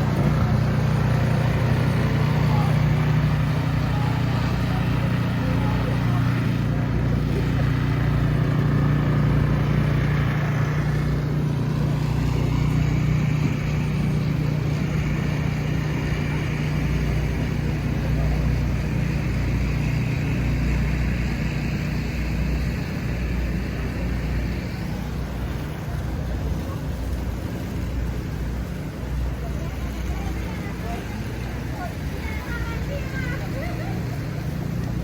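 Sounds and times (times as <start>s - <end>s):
city street noise: 0.0s - 35.0s
vehicle engine humming: 0.0s - 35.0s.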